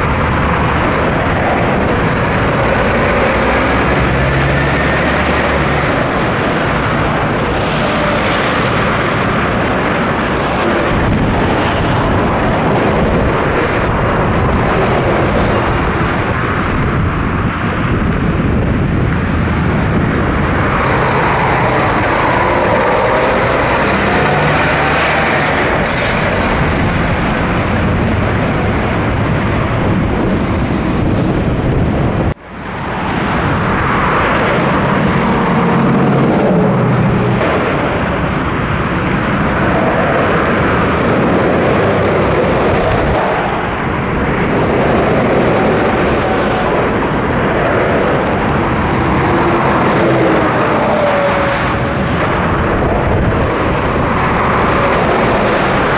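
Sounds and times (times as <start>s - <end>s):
motorway traffic passing: 0.0s - 55.9s.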